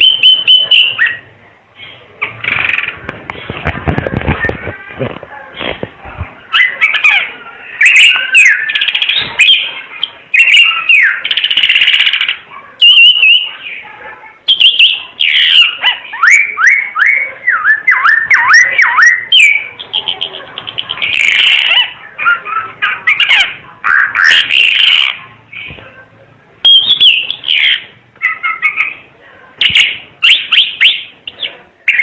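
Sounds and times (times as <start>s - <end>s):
bird chattering song: 0.0s - 3.0s, 6.5s - 25.8s, 26.6s - 32.0s.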